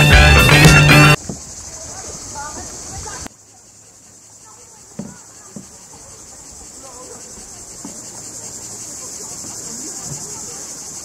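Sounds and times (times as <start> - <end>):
cicadas chorus: 0.0 - 11.0.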